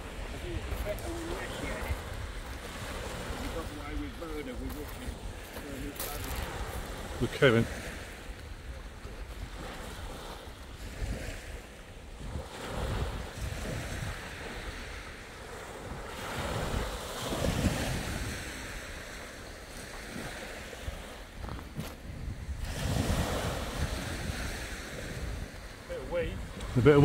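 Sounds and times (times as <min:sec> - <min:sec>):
small waves breaking on sand: 0:00.0 - 0:27.0
wind buffeting microphone: 0:00.0 - 0:27.0.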